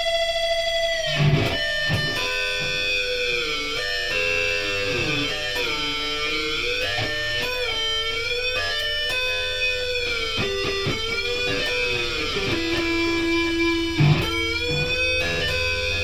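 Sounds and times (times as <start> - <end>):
guitar bending held notes: 0.0 - 16.0.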